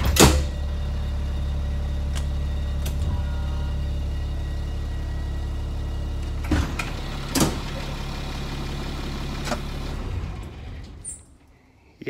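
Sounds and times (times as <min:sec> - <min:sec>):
diesel engine idling: 0:00.0 - 0:11.5.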